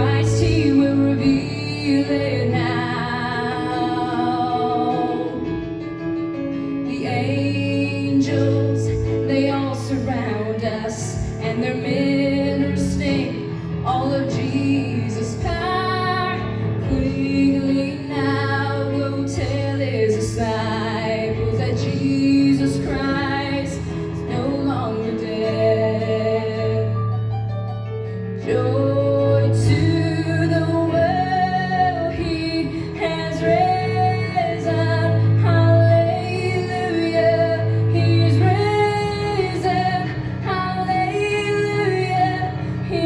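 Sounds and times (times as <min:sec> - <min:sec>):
woman singing: 0:00.0 - 0:06.0, 0:06.7 - 0:27.0, 0:28.4 - 0:43.0
instrumental accompaniment: 0:00.0 - 0:43.0.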